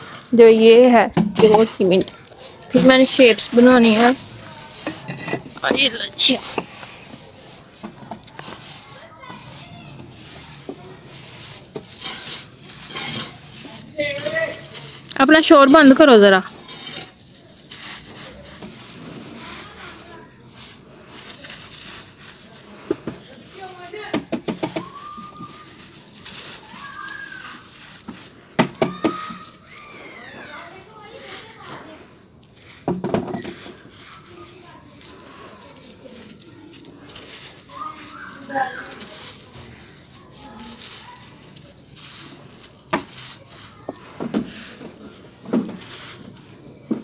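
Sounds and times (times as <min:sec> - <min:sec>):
clumps crunching: 0:00.0 - 0:47.0
dry cement grains trickling: 0:00.0 - 0:47.0.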